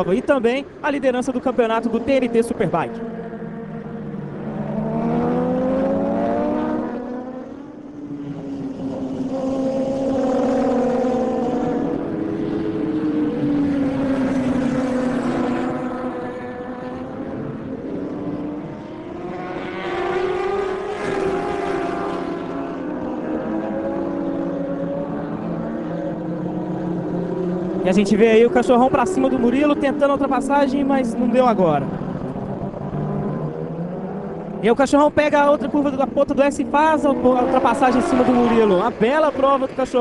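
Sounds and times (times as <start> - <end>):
motorcycle engines revving hard: 0.0 - 40.0.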